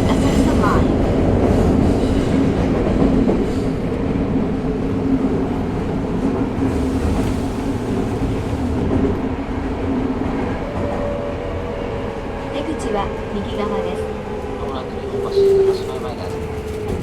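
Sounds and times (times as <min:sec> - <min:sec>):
subway train rumbling in tunnel: 0:00.0 - 0:17.0.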